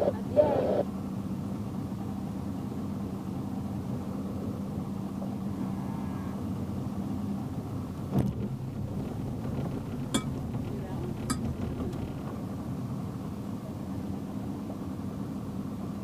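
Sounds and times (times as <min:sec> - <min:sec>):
motorboat engine running: 0:00.0 - 0:05.8, 0:06.4 - 0:16.0.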